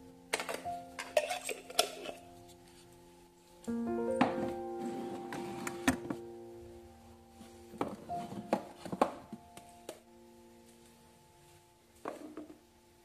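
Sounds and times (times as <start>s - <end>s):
background music with held notes: 0.0s - 13.0s.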